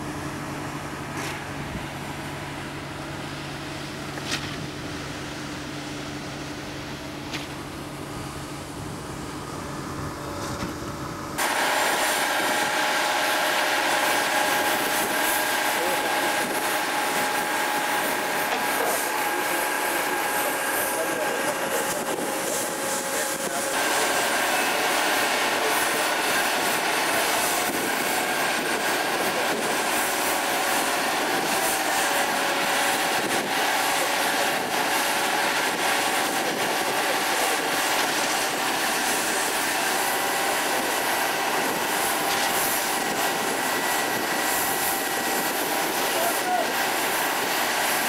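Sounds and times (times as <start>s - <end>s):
construction machinery drone: 0.0s - 48.0s.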